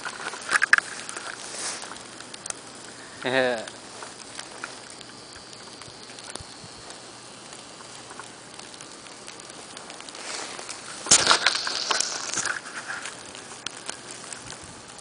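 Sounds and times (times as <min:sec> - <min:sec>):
faint ticks and patters: 0:00.0 - 0:15.0
steady snowstorm hiss: 0:00.0 - 0:15.0.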